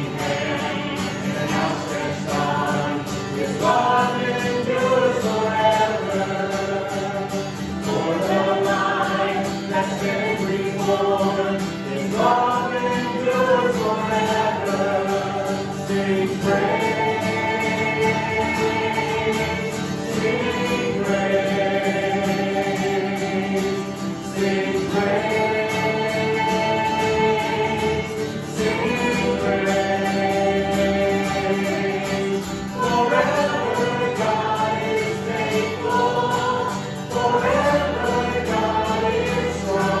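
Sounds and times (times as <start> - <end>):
group singing a worship song: 0.0 - 40.0.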